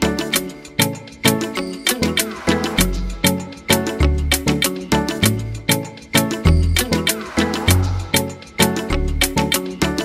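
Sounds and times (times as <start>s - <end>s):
upbeat latin-style music: 0.0s - 10.0s.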